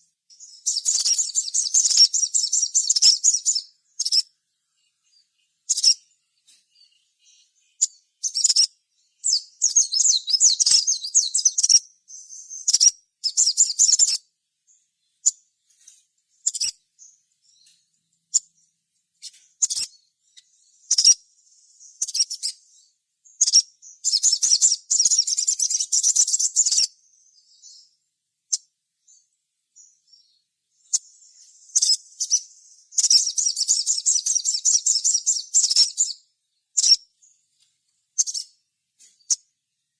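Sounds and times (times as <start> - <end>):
sharp bird chirps: 0.0 - 37.4, 38.2 - 39.5
bird twittering: 0.4 - 14.2, 16.4 - 18.6, 19.2 - 27.9, 28.5 - 36.2, 36.8 - 37.1, 38.2 - 39.5.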